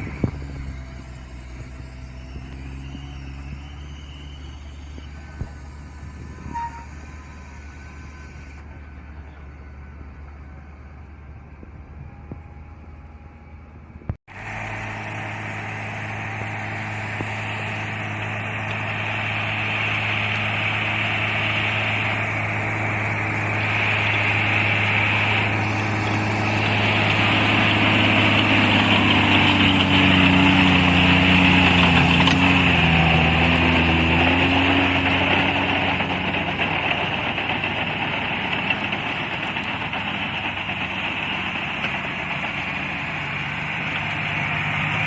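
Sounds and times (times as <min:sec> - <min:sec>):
rotary tiller high whine: 0:00.0 - 0:45.0
tractor engine running under load: 0:00.0 - 0:45.0.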